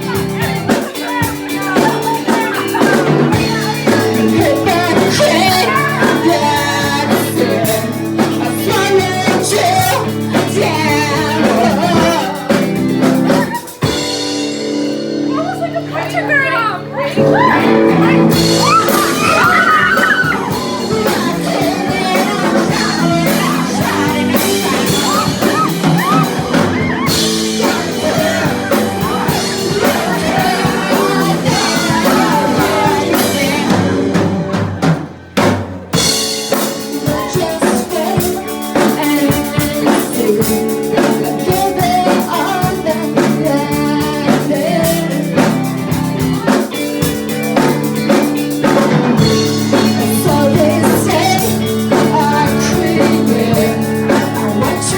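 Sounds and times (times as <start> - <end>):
person singing: 0.0 - 14.1, 17.2 - 35.0, 36.5 - 54.9
drum kit: 0.0 - 54.9
live band playing loud music: 0.0 - 54.9.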